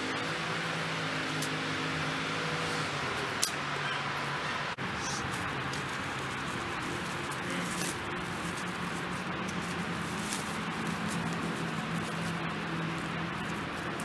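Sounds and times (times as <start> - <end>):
grass and soil rustling: 0.0 - 14.0.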